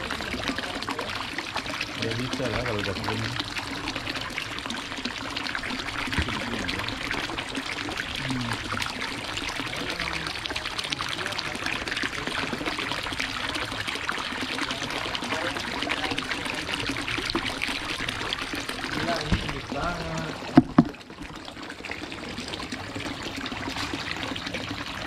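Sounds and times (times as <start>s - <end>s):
water pouring into tank: 0.0s - 25.0s.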